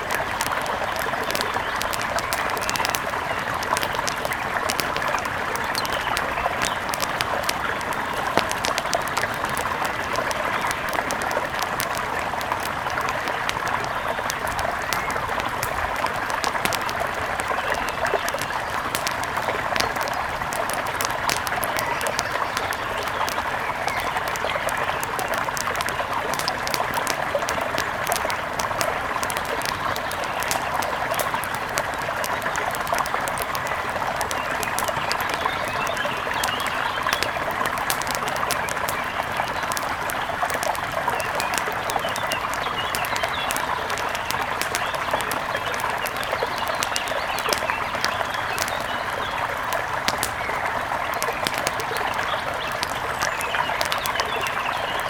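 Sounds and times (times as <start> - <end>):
forest birds chirping: 0.0 - 55.0
wood fire crackling: 0.0 - 55.0.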